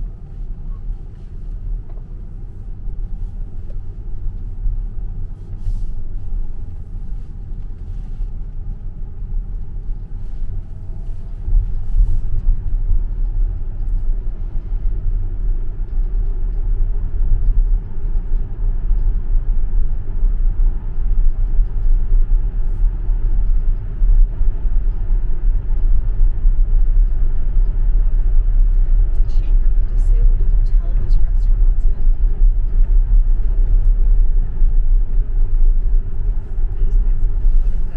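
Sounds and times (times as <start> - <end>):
tyre and road rumble in car: 0.0 - 37.9.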